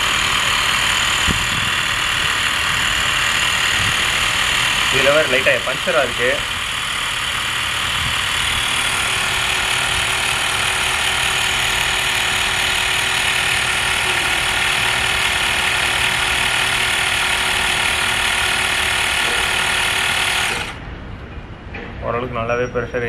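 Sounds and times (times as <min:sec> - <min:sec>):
electric air compressor buzzing: 0:00.0 - 0:20.8.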